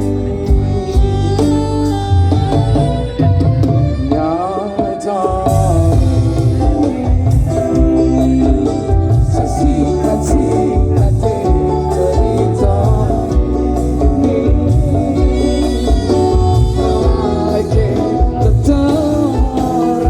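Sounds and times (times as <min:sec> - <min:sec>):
drum and bass beat: 0:00.0 - 0:20.0
live band through loud pa: 0:00.0 - 0:20.0
sliding melodic lead lines: 0:00.0 - 0:20.0.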